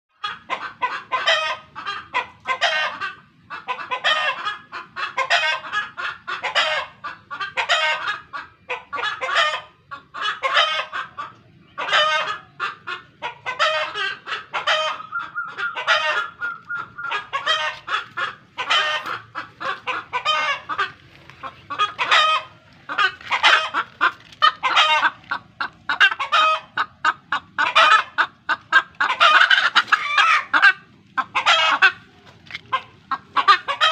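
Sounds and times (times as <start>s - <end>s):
roosters clucking: 0.1s - 33.9s.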